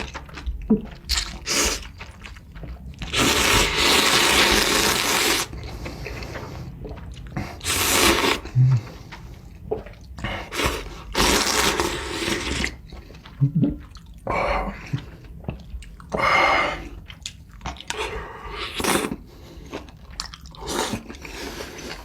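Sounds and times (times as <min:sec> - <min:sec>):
noodles slurped: 0:00.0 - 0:22.0
wet chewing: 0:00.0 - 0:22.0.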